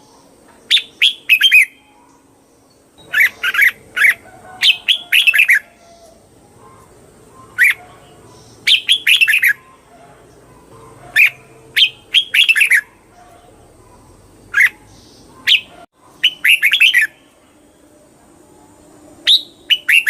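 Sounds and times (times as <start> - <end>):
bulbul singing chirps: 0.0 - 20.0.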